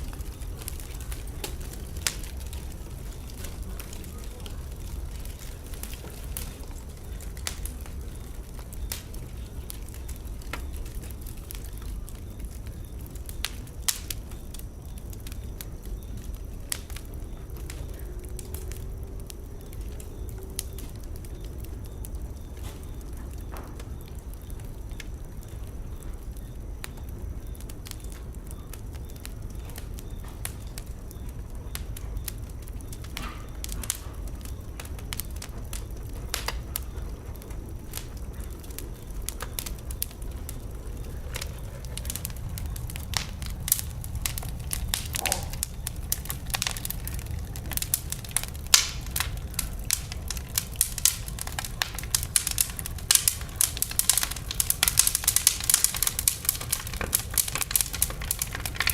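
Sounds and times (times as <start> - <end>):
logs crackling and popping: 0.0 - 58.9
low rumble of flame: 0.0 - 58.9.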